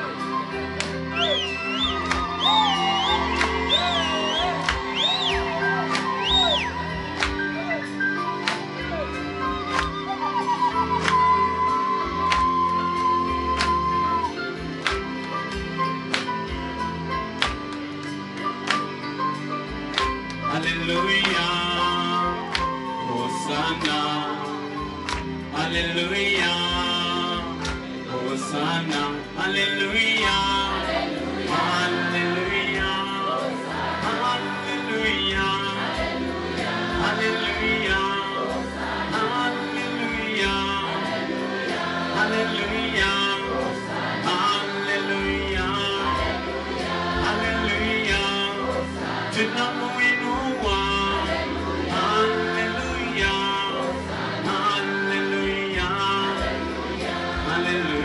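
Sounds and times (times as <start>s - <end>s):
voices singing gospel music: 0.0s - 58.0s.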